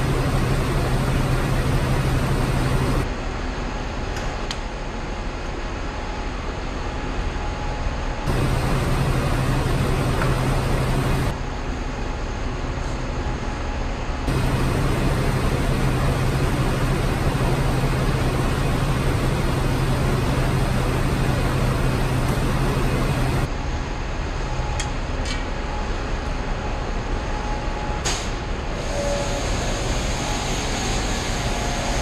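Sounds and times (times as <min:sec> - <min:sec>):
machinery hum: 0:00.0 - 0:32.0.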